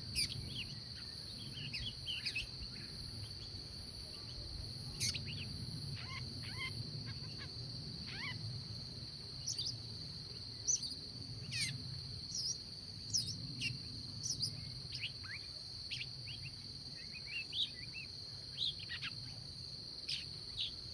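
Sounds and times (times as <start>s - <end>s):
high insect drone: 0.0s - 20.9s.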